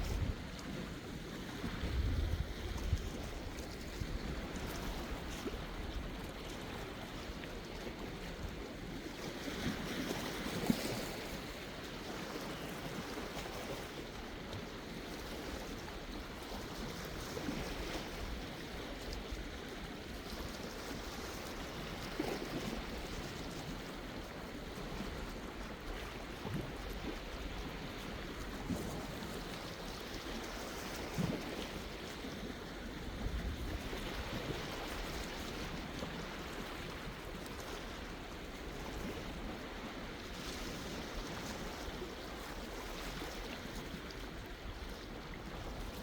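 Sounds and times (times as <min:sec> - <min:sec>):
sea waves washing ashore: 0:00.0 - 0:46.0.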